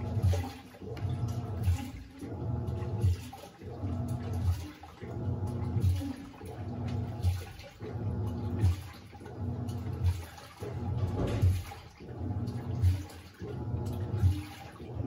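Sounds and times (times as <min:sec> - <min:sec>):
washing machine churning water: 0:00.0 - 0:15.0
washing machine motor hum: 0:00.0 - 0:15.0.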